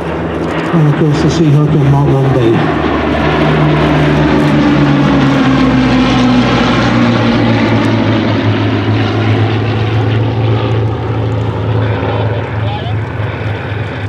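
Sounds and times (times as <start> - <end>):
propeller planes flying past: 0.0 - 14.0.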